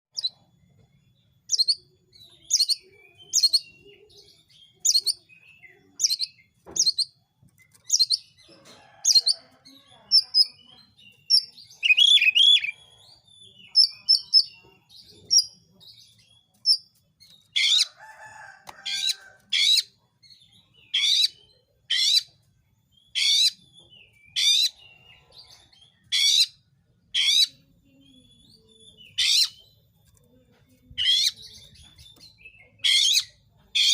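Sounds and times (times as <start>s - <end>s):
songbird singing: 0.1s - 33.9s.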